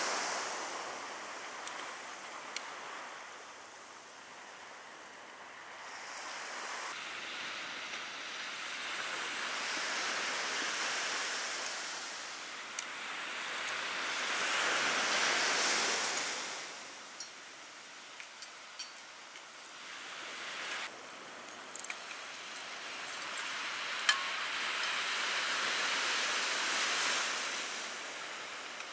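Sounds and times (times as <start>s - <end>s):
surf washing onto a beach: 0.0s - 28.9s.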